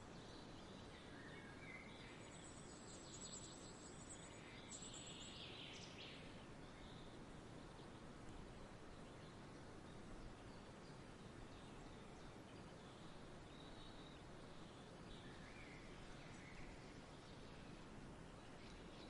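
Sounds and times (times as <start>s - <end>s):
faint bird chirps: 0.0s - 19.0s
soft steady hiss: 0.0s - 19.0s.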